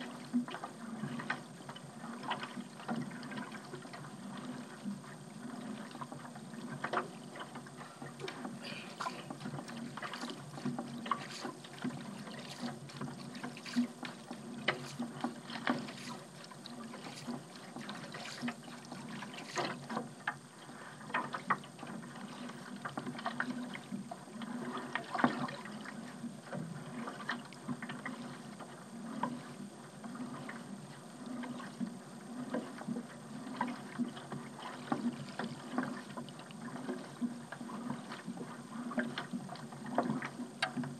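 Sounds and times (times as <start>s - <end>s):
paddle splashing in water: 0.0s - 40.9s
steady low hum: 0.0s - 40.9s.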